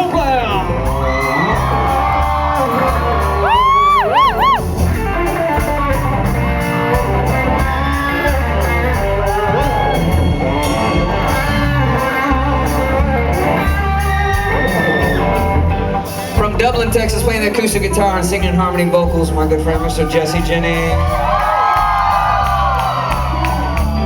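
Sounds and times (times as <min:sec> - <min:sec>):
country band playing: 0:00.0 - 0:24.0.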